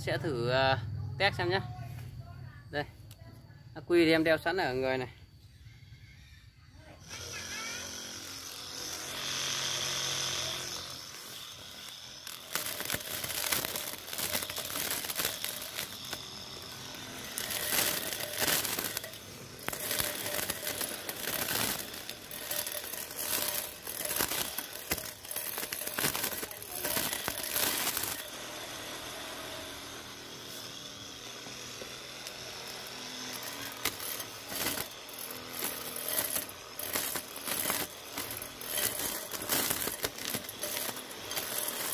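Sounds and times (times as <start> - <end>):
string trimmer motor whine: 7.0 - 41.9
trimmer line cutting grass: 7.0 - 41.9.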